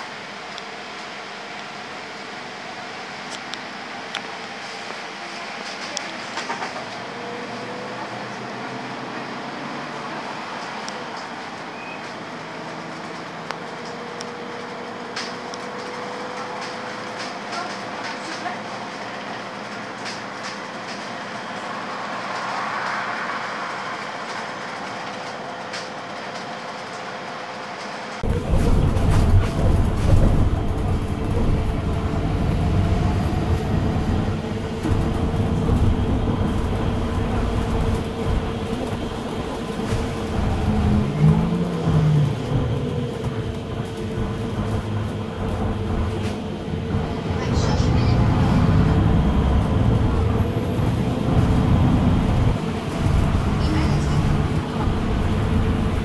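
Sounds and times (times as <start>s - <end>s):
bus road hum: 0.0s - 56.0s.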